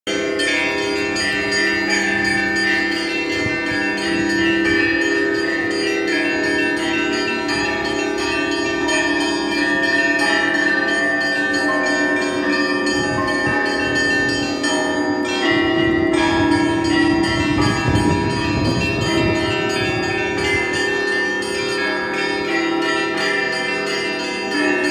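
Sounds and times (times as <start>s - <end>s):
church bells ringing a peal: 0.1s - 24.9s.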